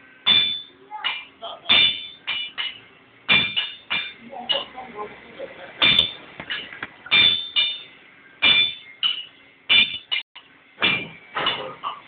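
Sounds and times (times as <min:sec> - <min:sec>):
hammer striking metal: 0:00.2 - 0:04.8, 0:05.8 - 0:12.0.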